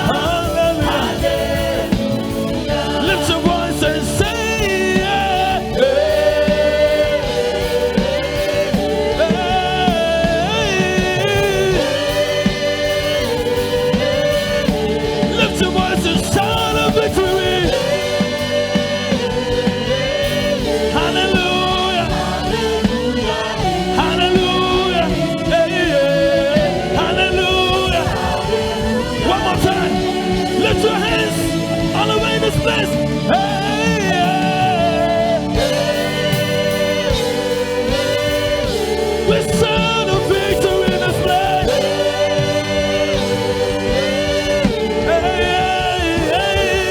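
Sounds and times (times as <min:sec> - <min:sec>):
choir singing gospel: 0:00.0 - 0:46.9
live band playing: 0:00.0 - 0:46.9.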